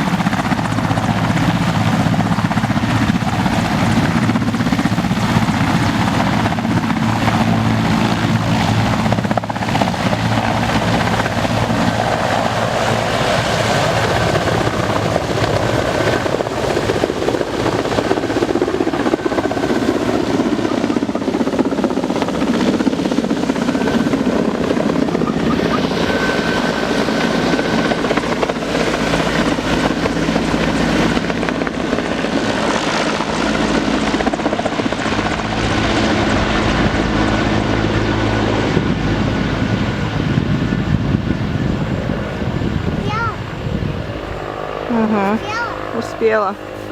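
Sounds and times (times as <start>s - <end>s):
helicopter rotor and turbine engines: 0.0s - 46.9s.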